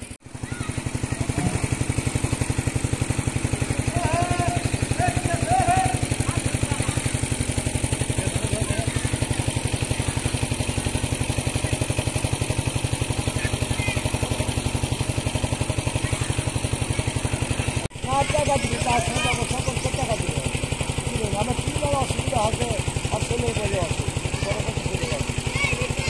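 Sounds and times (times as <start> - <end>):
engine chugging steadily: 0.0 - 26.0.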